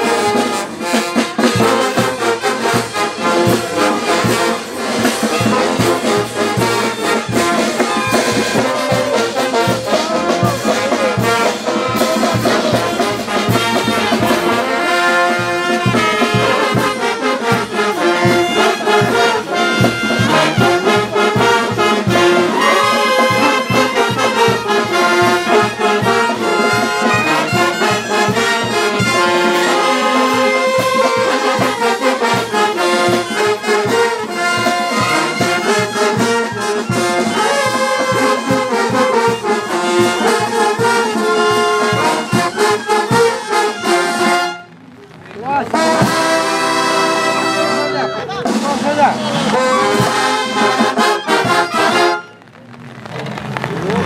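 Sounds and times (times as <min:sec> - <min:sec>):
horns playing melody: 0:00.0 - 0:54.0
live band playing: 0:00.0 - 0:54.0.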